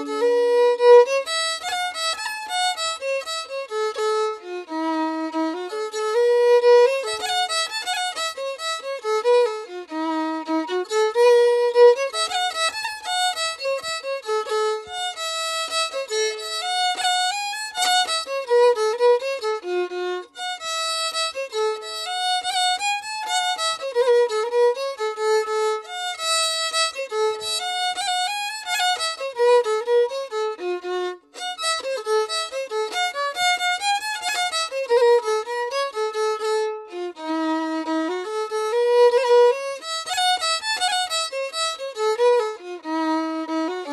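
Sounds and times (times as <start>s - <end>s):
solo violin melody: 0.0s - 43.9s.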